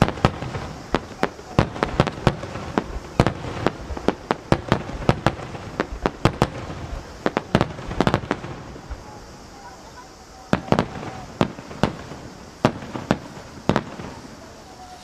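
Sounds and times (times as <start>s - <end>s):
fireworks bangs: 0.0s - 15.0s
fireworks noise wash: 0.0s - 15.0s.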